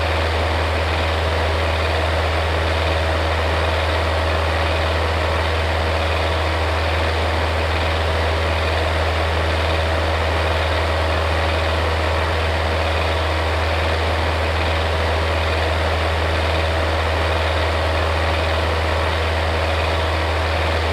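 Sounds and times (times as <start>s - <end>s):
electric fan motor hum: 0.0s - 20.9s.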